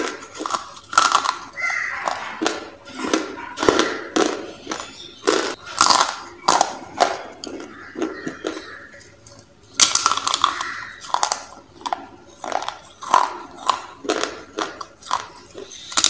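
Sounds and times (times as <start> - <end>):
dry clay crunching: 0.0 - 16.0.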